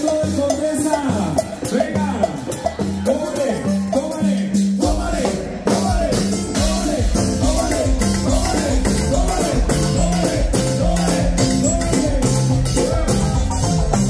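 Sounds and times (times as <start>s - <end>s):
live band playing latin dance music: 0.0s - 14.0s.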